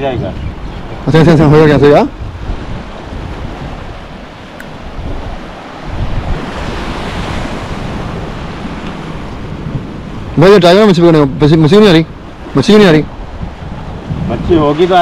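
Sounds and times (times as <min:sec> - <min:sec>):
waves on rocky shore: 0:00.0 - 0:15.0
wind buffeting microphone: 0:00.0 - 0:15.0.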